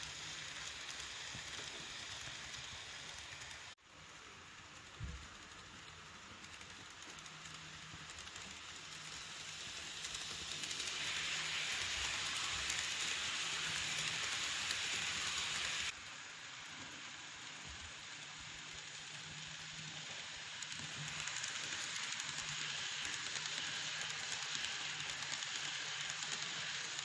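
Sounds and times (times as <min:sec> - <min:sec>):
model train wheels clicking: 0:00.0 - 0:27.0.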